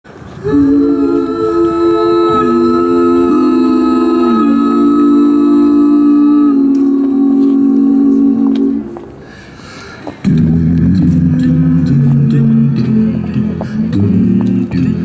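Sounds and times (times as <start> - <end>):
a cappella group singing chords: 0.3 - 9.3, 10.2 - 15.0.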